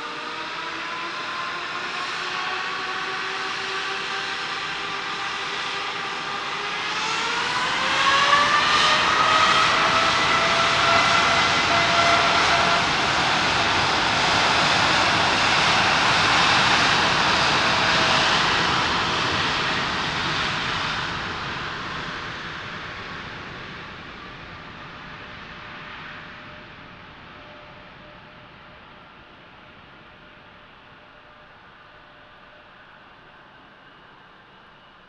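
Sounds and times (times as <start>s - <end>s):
jet engines whining and roaring: 0.0s - 35.0s.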